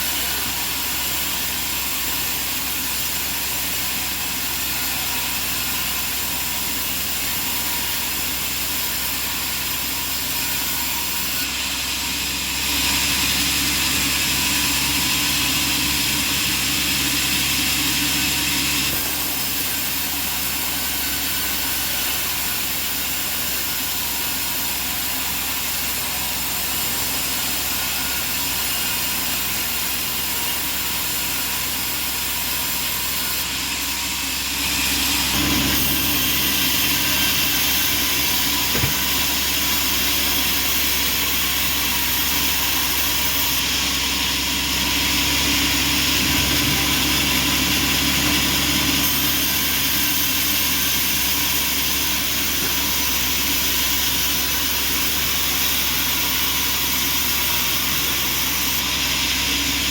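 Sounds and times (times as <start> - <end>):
band sawmill droning: 0.0 - 59.9.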